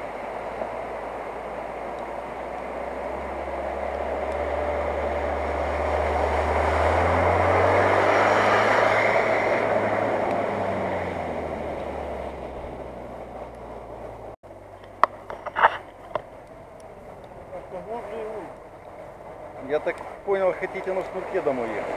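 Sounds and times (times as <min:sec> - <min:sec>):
car engine humming: 0:00.0 - 0:21.9
water splashing from wheels: 0:00.0 - 0:21.9.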